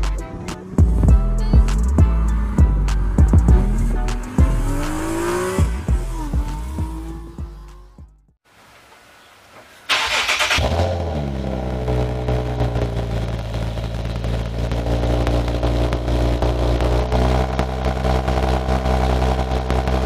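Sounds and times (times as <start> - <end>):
car engine starting and idling: 0.0 - 8.4, 9.9 - 20.0.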